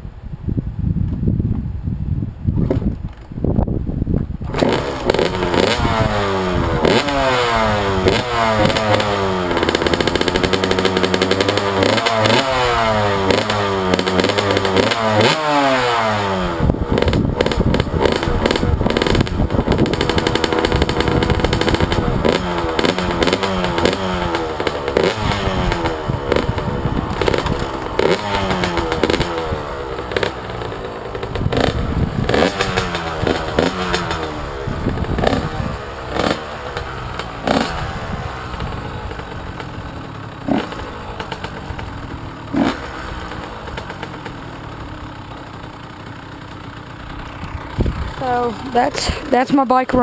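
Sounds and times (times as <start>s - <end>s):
two-stroke engine revving: 4.4s - 50.0s.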